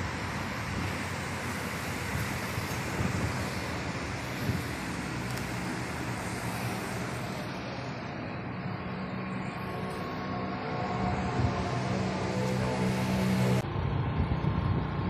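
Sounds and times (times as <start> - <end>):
low engine hum: 0.0 - 15.0
street traffic: 0.0 - 15.0.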